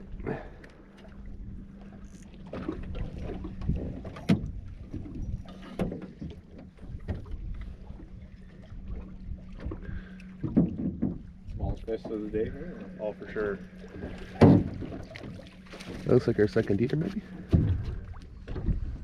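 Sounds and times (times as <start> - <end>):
boat motor humming: 0.0 - 19.0
wind and water rumble: 0.0 - 19.0
knocks and thumps on boat: 1.1 - 19.0.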